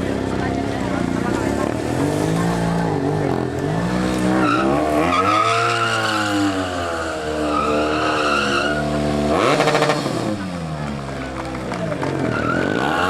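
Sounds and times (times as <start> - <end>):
motorcycle engine revving: 0.0 - 13.0
tyre squealing on pavement: 1.7 - 10.7, 11.3 - 13.0.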